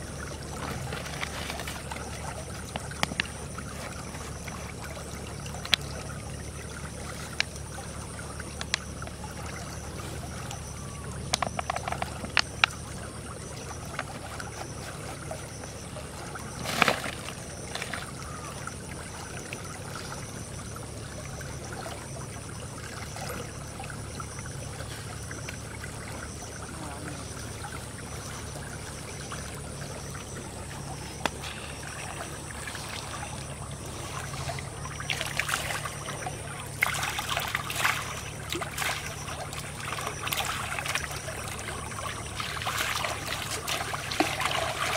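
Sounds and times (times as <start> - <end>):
steady low hum: 0.0 - 44.9
water trickling: 0.0 - 44.9.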